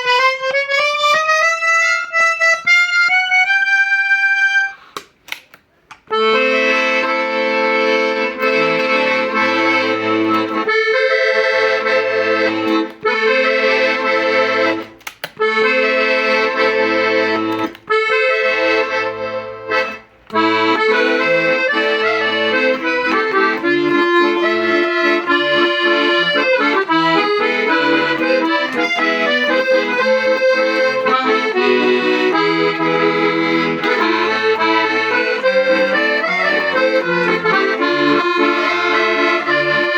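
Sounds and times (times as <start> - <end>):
accordion chords and melody: 0.0 - 39.9.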